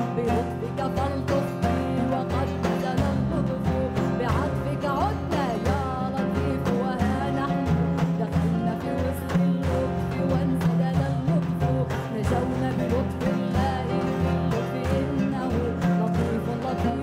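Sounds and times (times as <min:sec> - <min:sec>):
oud: 0:00.0 - 0:17.0
percussion: 0:00.0 - 0:17.0
woman singing: 0:00.0 - 0:17.0.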